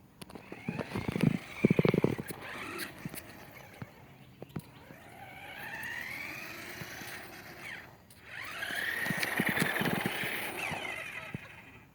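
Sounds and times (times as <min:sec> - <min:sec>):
electric motor whining: 0:00.2 - 0:11.9.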